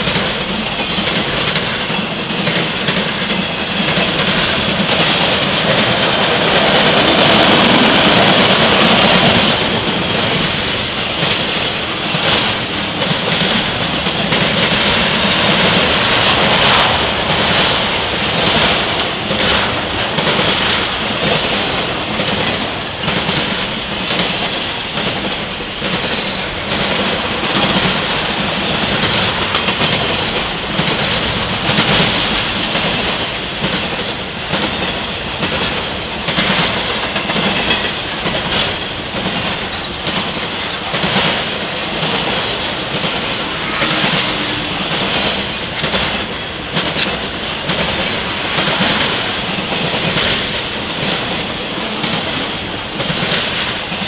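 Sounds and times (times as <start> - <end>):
freight train rolling past: 0.0 - 54.0
train wheel clacks: 0.0 - 54.0.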